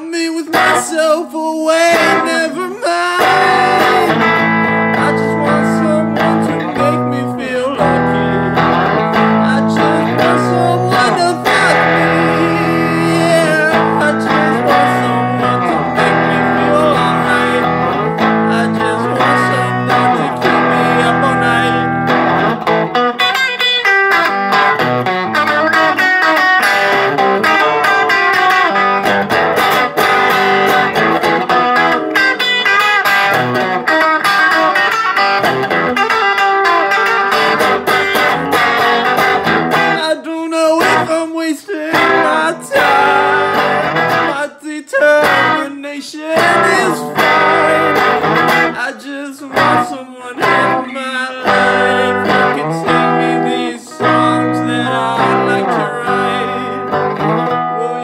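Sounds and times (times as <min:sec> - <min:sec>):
electric guitar playing: 0:00.4 - 0:58.0.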